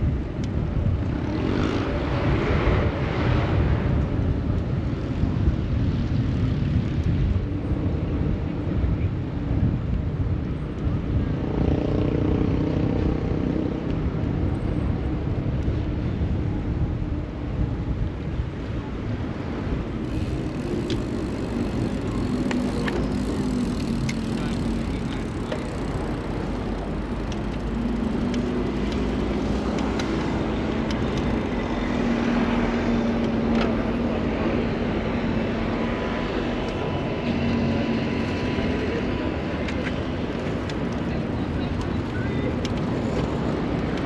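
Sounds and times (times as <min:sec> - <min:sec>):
car engines and tyre noise: 0:00.0 - 0:44.0.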